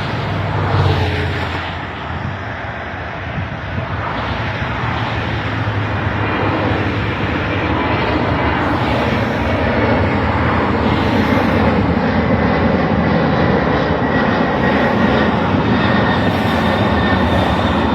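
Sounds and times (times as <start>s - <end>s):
high engine whine: 0.0s - 17.9s
jet engines roaring: 0.0s - 17.9s.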